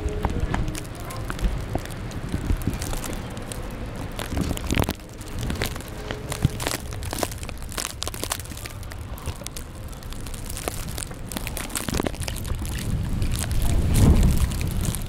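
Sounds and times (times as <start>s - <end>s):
crackling crunching clicks: 0.0s - 15.0s
wind rumbling on microphone: 0.0s - 15.0s.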